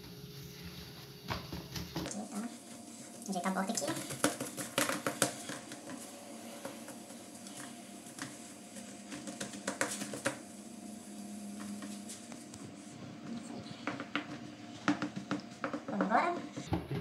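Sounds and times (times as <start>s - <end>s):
faint steady hum: 0.0s - 17.0s
hands patting dough: 1.3s - 10.4s, 11.5s - 17.0s.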